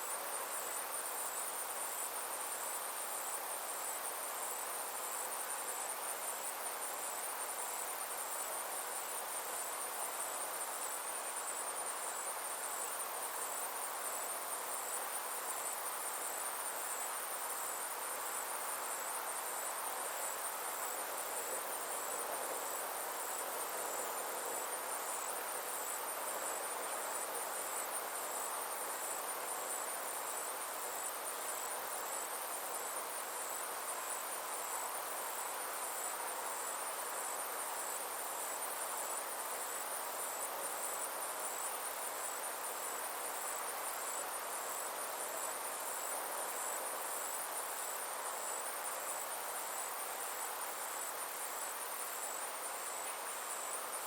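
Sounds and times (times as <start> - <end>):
insects chirring: 0.0 - 54.0
outdoor ambience hiss: 0.0 - 54.0.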